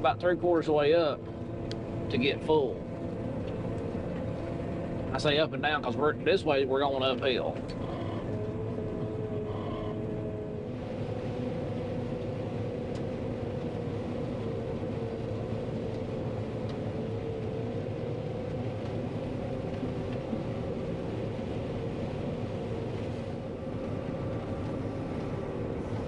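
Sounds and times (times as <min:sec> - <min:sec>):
combine harvester mechanical drone: 0:00.0 - 0:26.0.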